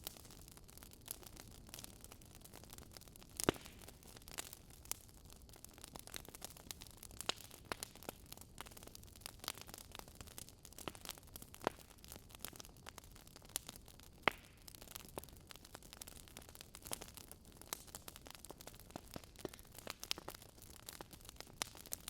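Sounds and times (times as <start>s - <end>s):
burning logs crackling: 0.0s - 22.0s.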